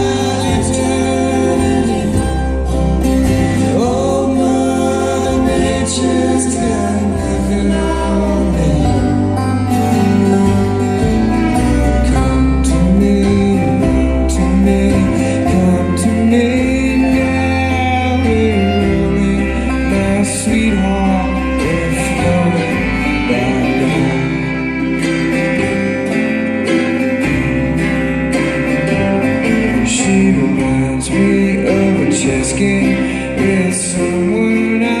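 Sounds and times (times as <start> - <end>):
person singing: 0.0 - 27.2, 28.9 - 35.0
bluegrass string band: 0.0 - 35.0.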